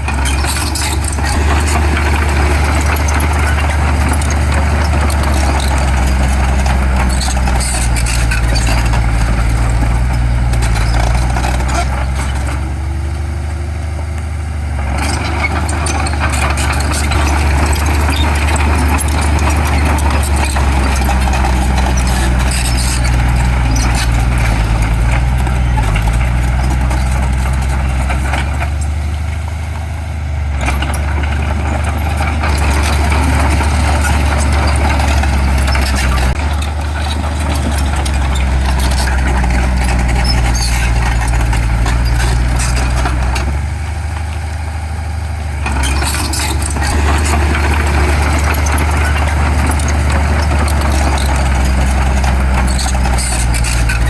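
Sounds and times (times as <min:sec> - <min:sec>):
diesel machinery engine drone: 0:00.0 - 0:54.0
rough machinery working noise: 0:00.0 - 0:54.0.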